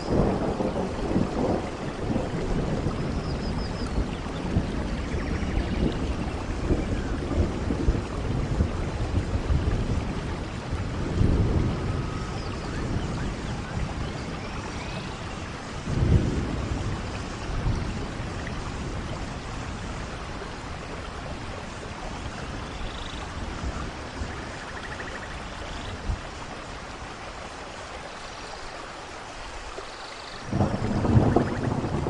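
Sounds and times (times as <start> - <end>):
thunder rumbling: 0.0 - 26.7, 30.4 - 32.0
steady rain: 0.0 - 32.0.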